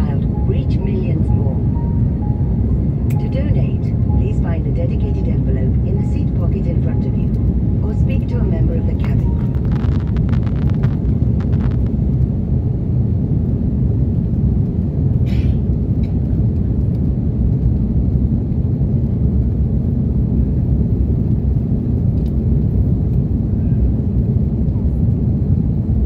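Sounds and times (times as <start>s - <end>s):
airliner cabin engine noise: 0.0s - 26.0s.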